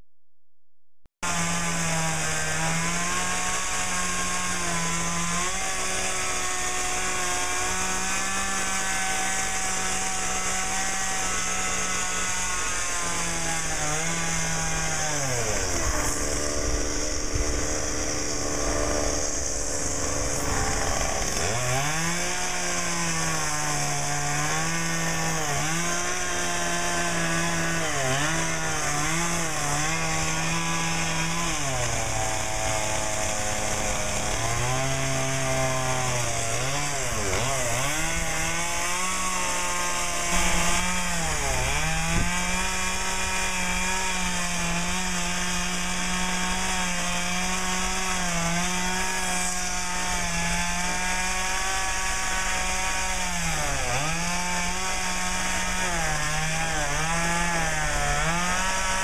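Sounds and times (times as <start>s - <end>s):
chainsaw carving wood: 1.2s - 59.0s.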